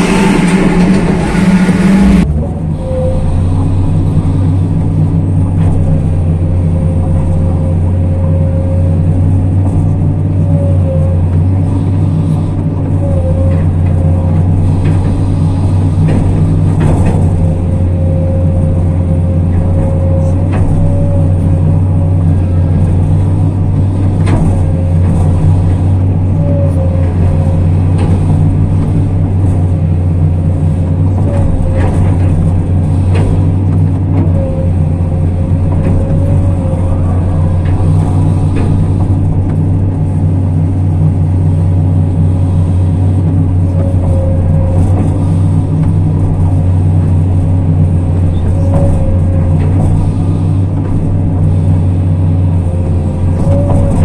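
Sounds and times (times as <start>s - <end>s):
excavator diesel engine running: 0.0s - 54.0s
hydraulic whine: 0.0s - 54.0s.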